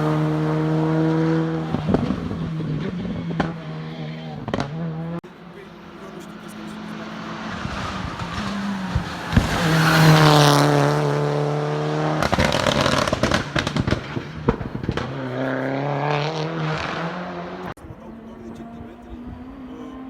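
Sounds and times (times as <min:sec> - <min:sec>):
exhaust bangs and crackles: 0:00.0 - 0:20.0
race car engine at full throttle: 0:00.0 - 0:20.0.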